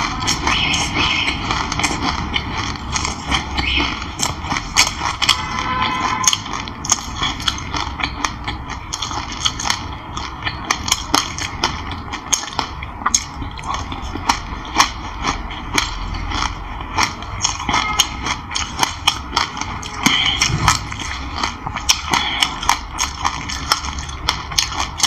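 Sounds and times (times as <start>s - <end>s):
chewing crunchy seeds: 0.0s - 25.0s.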